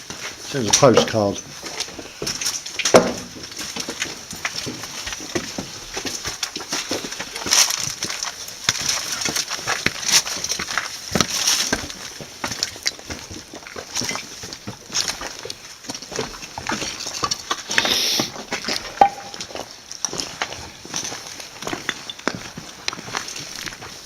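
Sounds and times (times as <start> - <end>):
footsteps on gritty debris: 0.0 - 24.0.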